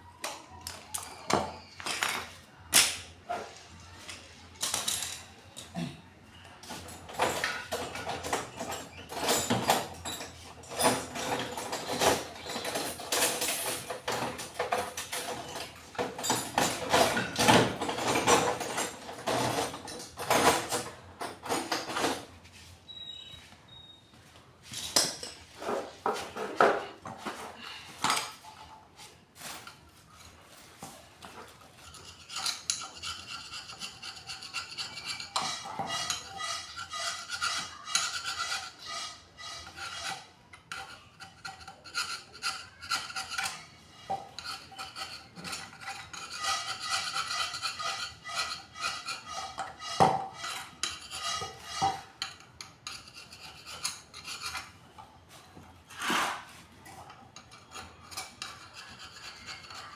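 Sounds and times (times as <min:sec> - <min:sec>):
metal tools clinking and scraping: 0:03.4 - 0:05.7, 0:06.6 - 0:23.2, 0:24.7 - 0:59.9.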